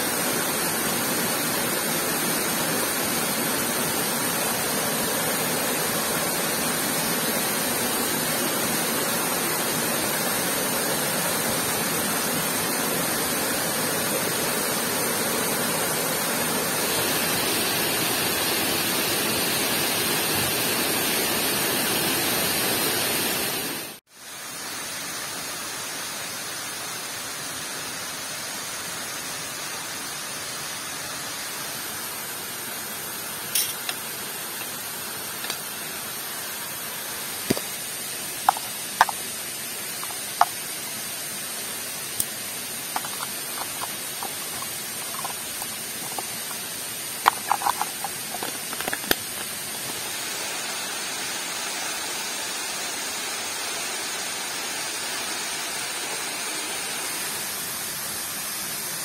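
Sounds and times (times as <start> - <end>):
rushing waterfall and heavy rain: 0.0 - 59.0.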